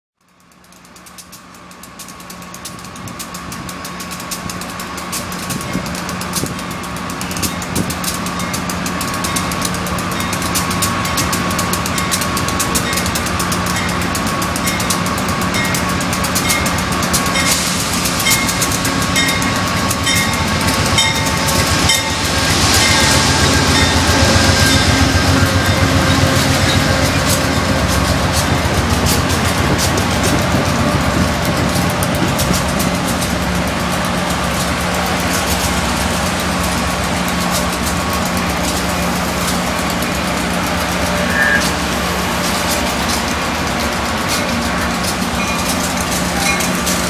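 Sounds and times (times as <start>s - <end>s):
diesel locomotive engine hum: 0.2s - 47.0s
wheels clicking over rail joints: 0.2s - 47.0s.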